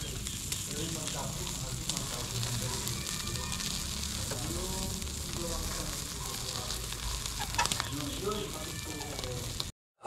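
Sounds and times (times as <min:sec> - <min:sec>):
chicken sizzling on a grill: 0:00.0 - 0:09.7.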